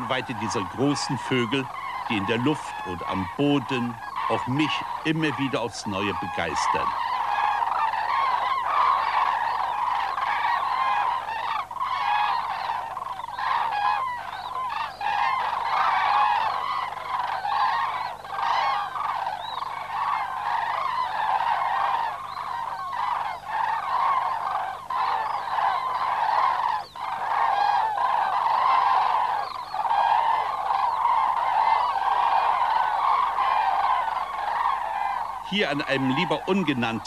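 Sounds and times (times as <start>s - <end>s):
cranes trumpeting calls: 0.0s - 37.0s.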